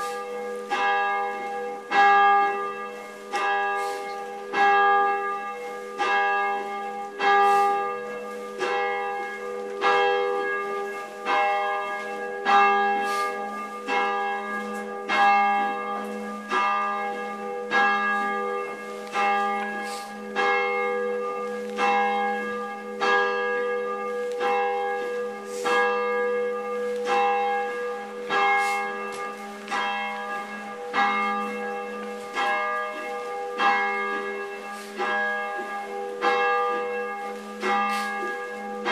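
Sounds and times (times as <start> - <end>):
church bell tolling: 0.0 - 38.9.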